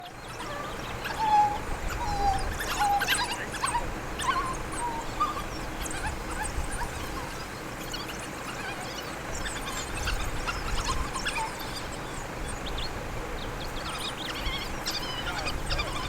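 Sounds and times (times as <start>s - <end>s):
wild dogs whimpering calls: 0.0s - 16.0s.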